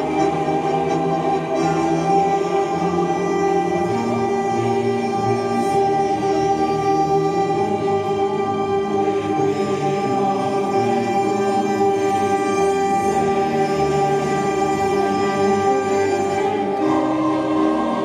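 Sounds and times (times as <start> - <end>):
choir singing sustained chords: 0.0 - 18.0.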